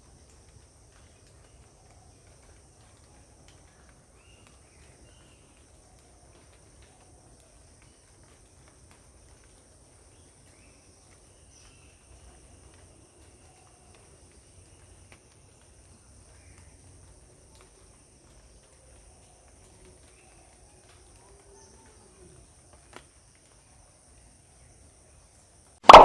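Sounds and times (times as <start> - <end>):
insects droning: 0.0 - 25.7.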